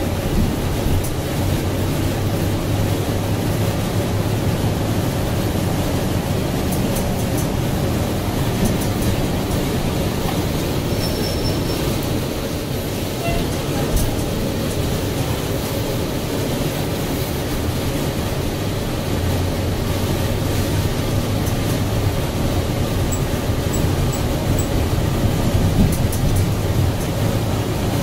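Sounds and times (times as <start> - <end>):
bus engine hum: 0.0 - 28.0
road and body noise: 0.0 - 28.0.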